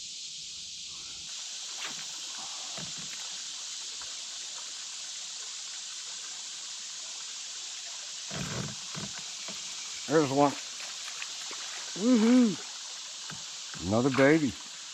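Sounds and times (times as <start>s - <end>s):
high hiss of outdoor ambience: 0.0s - 14.9s
water trickling around kayak: 1.4s - 14.9s.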